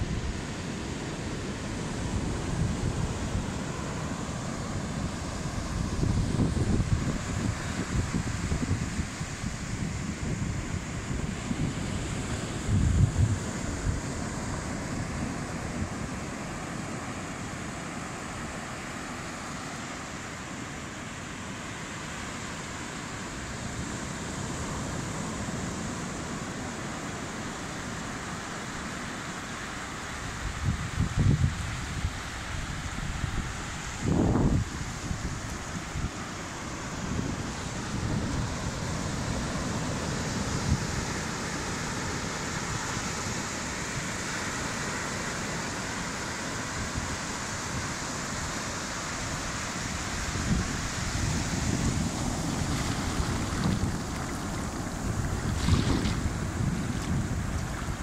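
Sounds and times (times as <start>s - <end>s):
wind rumbling on microphone: 0.0s - 18.7s, 30.2s - 58.0s
surf washing onto beach: 0.0s - 58.0s.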